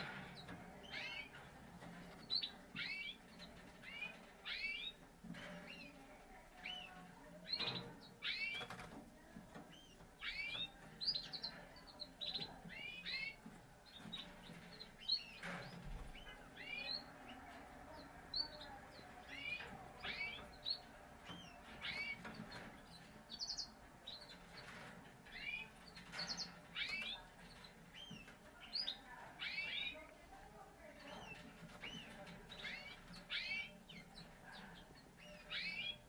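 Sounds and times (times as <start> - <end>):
canaries chirping: 0.0 - 36.0.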